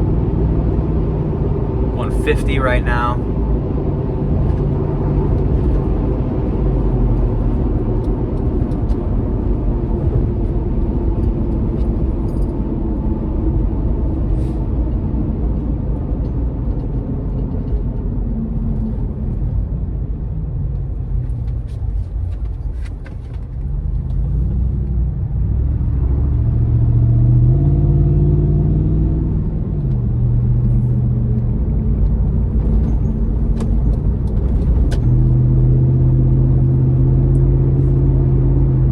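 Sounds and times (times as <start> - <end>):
car engine: 0.0 - 38.9.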